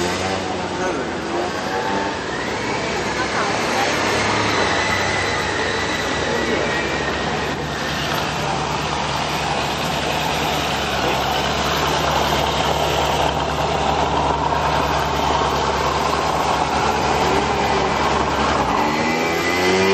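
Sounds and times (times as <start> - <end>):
engine droning: 0.0 - 19.9
loud rushing noise: 0.0 - 19.9.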